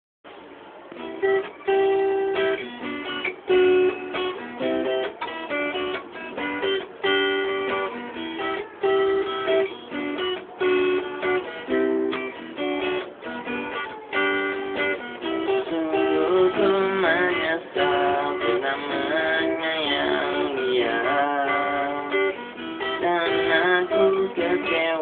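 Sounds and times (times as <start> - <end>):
strummed guitar chords: 0.3 - 25.0.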